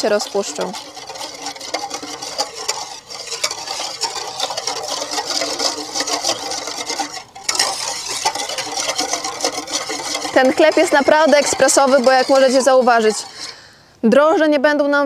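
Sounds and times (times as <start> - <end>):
spoon scraping and clinking in bowl: 0.0 - 13.6.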